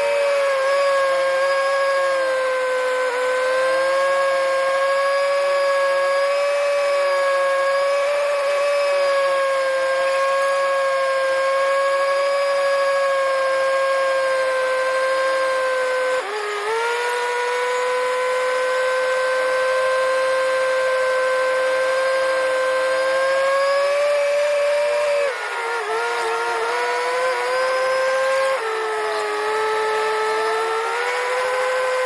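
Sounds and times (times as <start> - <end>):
backhoe machinery whining: 0.0 - 32.0.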